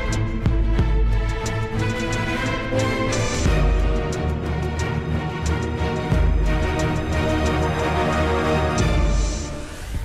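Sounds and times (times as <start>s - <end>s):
theme music with sustained chords: 0.0s - 10.0s.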